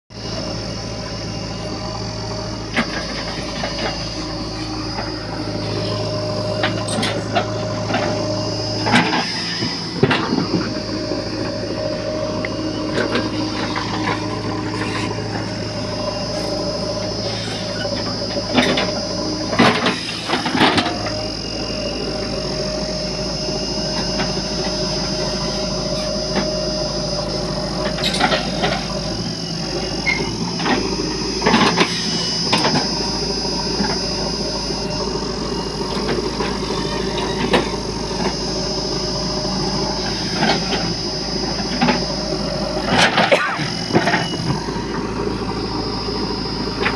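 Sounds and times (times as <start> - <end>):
diesel engine running: 0.0 - 46.9
constant high whine: 0.1 - 46.9.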